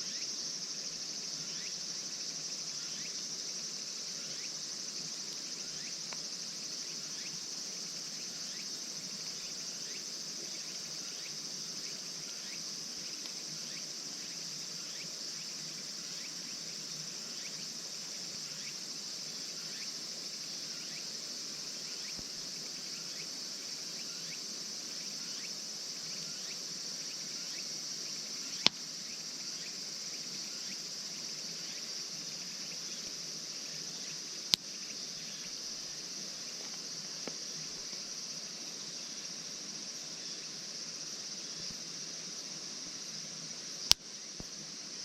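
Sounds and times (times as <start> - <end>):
crickets and insects chorus: 0.0 - 45.0.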